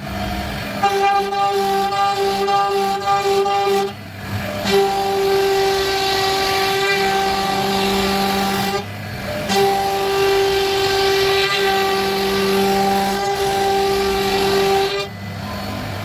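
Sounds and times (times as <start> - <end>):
router spindle cutting wood: 0.9 - 16.0.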